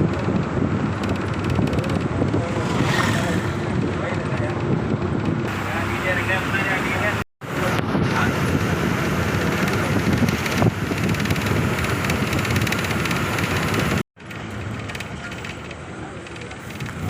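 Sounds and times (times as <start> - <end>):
bus engine: 0.0 - 17.0
road noise: 0.0 - 17.0
wind: 0.0 - 17.0.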